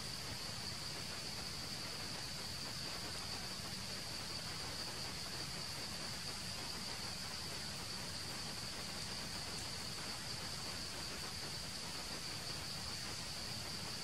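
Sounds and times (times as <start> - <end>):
background hiss: 0.0 - 14.0
insects droning: 0.0 - 14.0.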